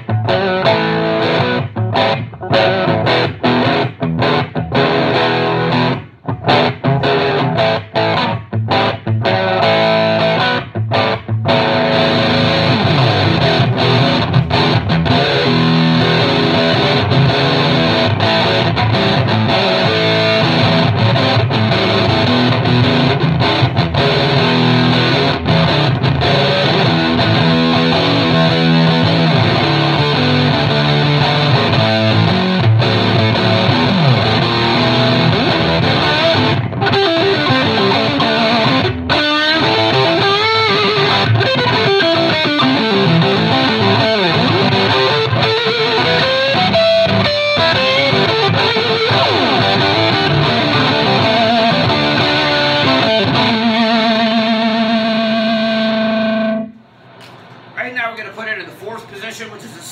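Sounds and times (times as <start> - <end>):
fuzzed electric guitar: 0.0 - 59.9.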